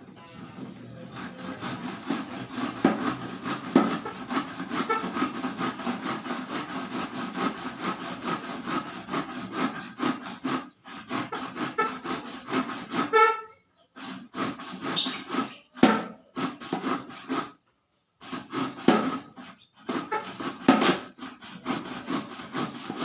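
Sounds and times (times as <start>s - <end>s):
hand saw cutting wood: 0.8s - 23.0s.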